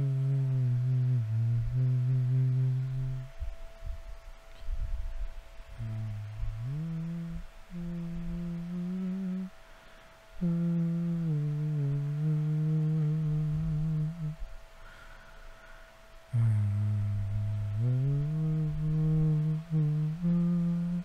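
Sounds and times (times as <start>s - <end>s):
man humming a slow tune: 0.0s - 21.0s.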